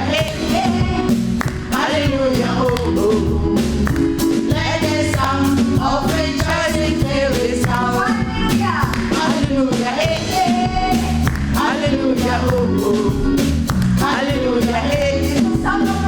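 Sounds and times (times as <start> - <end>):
band with bass and beat: 0.0 - 16.0
gospel singers: 0.0 - 16.0.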